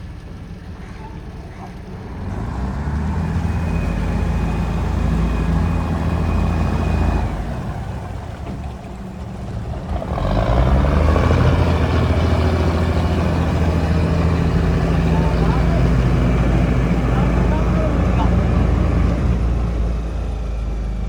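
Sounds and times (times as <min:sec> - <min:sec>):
boat engine running: 0:00.2 - 0:21.0.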